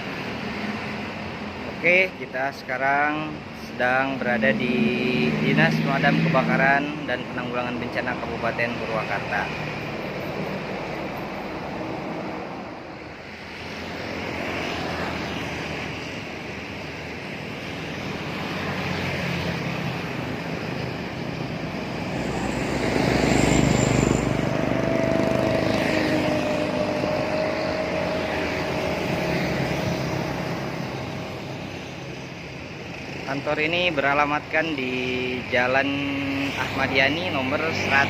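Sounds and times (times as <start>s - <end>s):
passing vehicles rumbling: 0.0s - 38.0s.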